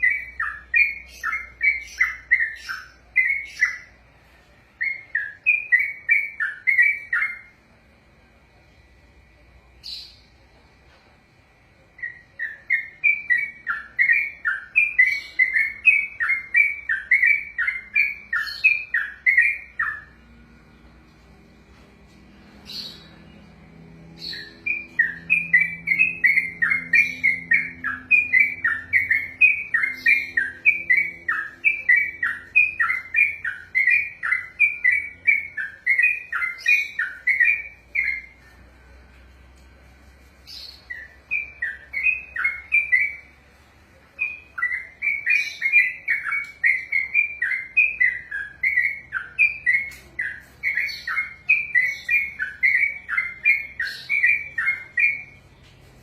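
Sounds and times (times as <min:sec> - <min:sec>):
bulbul singing rolling song: 0:00.0 - 0:56.0.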